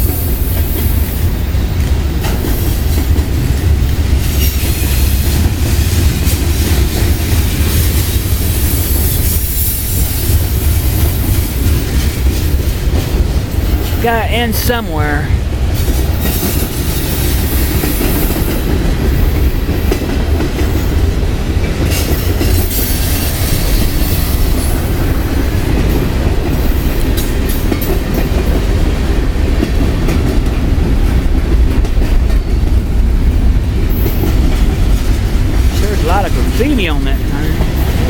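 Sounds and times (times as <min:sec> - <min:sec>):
wheels clickety-clack: 0:00.0 - 0:14.0, 0:15.6 - 0:38.0
freight train rumbling past: 0:00.0 - 0:38.0
railcars clanking: 0:00.0 - 0:38.0.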